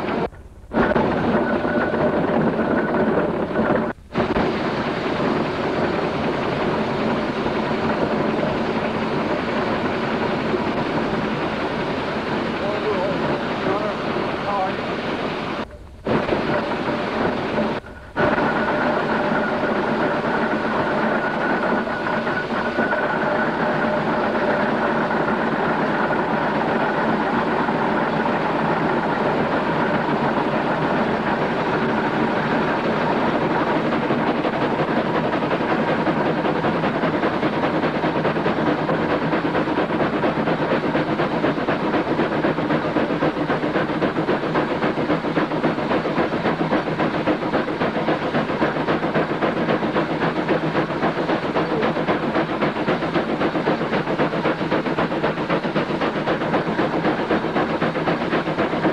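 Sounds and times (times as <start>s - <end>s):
steam engine chuffing: 0.0s - 58.9s
steam hissing: 0.0s - 58.9s.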